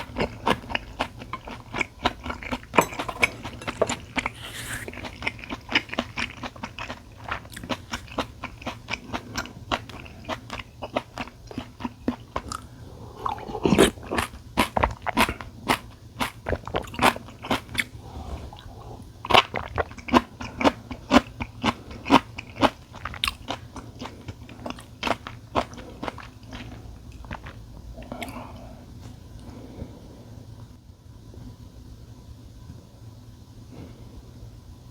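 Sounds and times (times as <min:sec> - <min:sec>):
person chewing crunchy food: 0:00.0 - 0:28.8.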